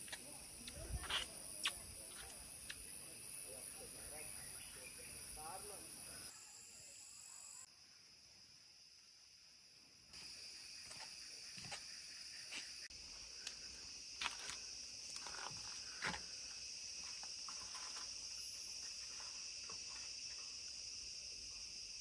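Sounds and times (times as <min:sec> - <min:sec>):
shrill insect chorus: 0:00.0 - 0:22.0.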